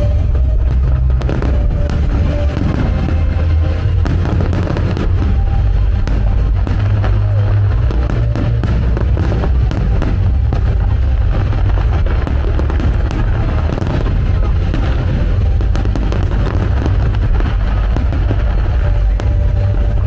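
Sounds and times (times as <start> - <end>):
continuous low rumble: 0.0 - 20.0
fireworks crackling and popping: 0.0 - 20.0
loud music playing: 0.0 - 20.0.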